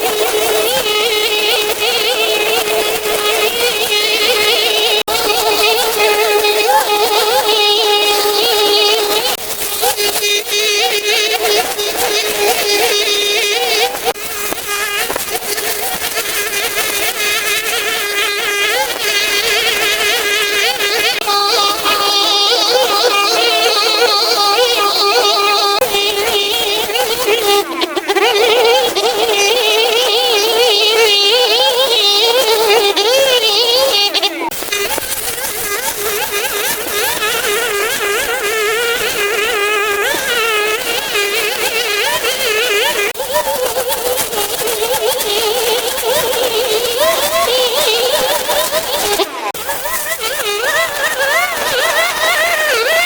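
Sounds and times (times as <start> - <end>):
buzzy melody over a drone: 0.0 - 53.0.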